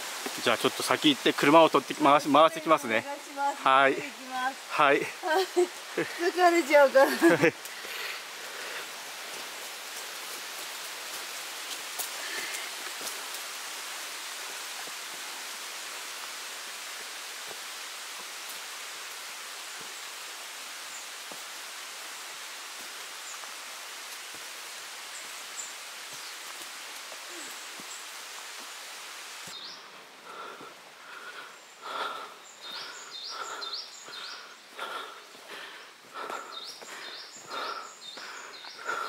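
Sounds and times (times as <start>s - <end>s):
rain hissing in forest: 0.0s - 39.0s.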